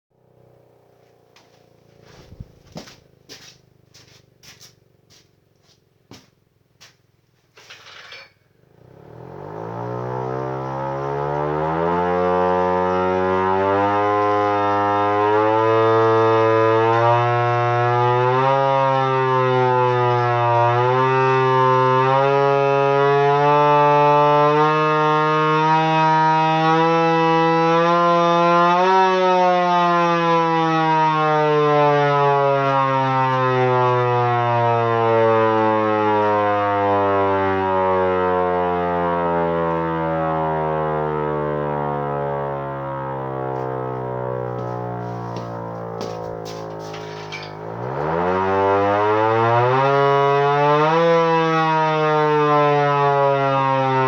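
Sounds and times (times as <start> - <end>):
siren winding up and down: 8.1 - 54.0.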